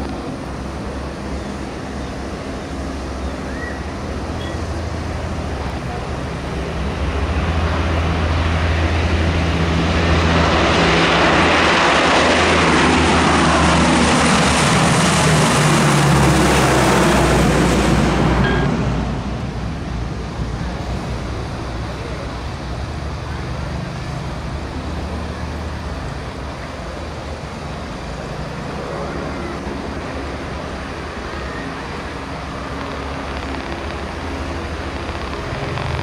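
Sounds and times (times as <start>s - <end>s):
turboprop aircraft taking off: 0.0s - 36.0s.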